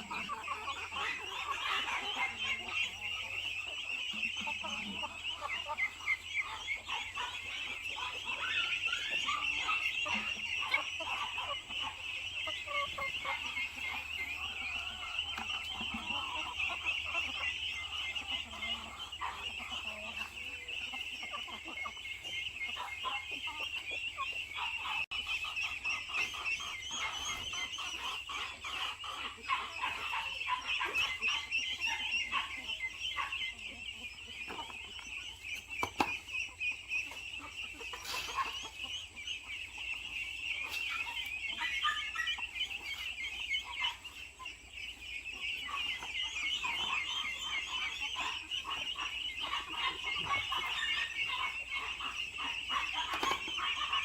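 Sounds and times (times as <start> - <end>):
chickens calling: 0.0 - 54.0
chickens clucking: 0.0 - 54.0.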